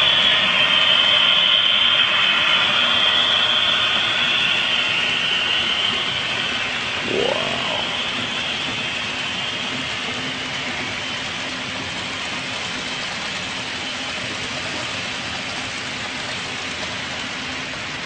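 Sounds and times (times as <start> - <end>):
model trains running: 0.0 - 18.0.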